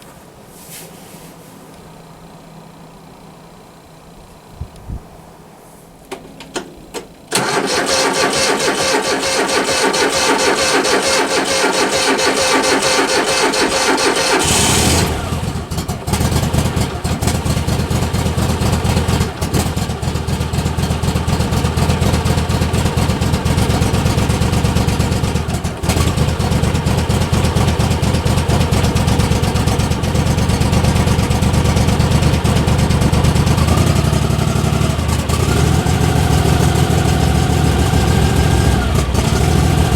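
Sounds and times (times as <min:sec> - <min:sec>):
engine starting and running: 0:06.0 - 0:39.9.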